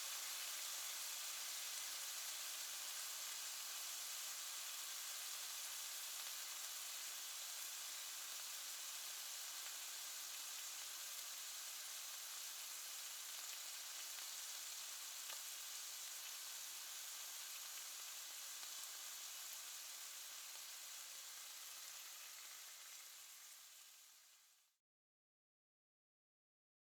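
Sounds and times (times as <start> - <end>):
meat sizzling in a pan: 0.0 - 24.8.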